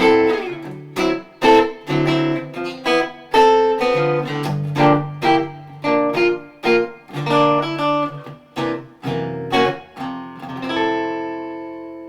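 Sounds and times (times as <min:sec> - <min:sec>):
strummed guitar chords: 0:00.0 - 0:12.0.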